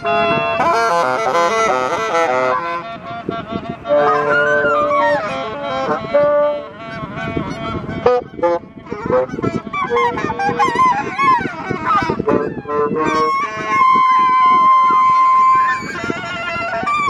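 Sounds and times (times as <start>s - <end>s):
geese honking: 0.0s - 17.0s
reed instrument holding notes: 0.0s - 17.0s.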